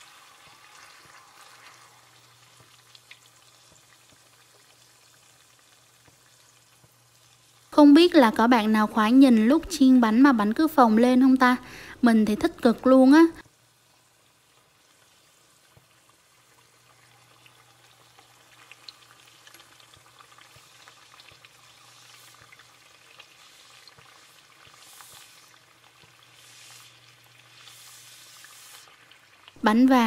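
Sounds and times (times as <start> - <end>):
dough sizzling in hot oil: 0.0 - 30.0.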